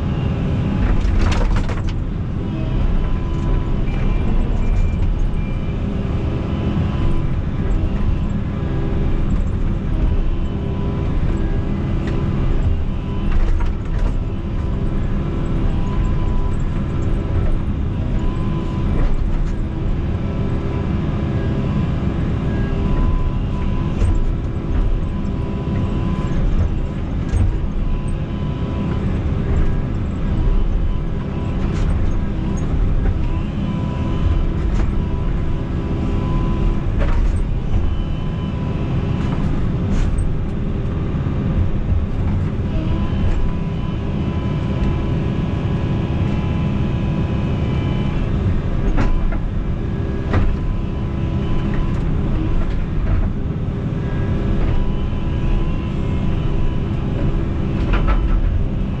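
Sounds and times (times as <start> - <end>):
diesel engine running: 0.0 - 59.0
hydraulic whine: 0.0 - 59.0.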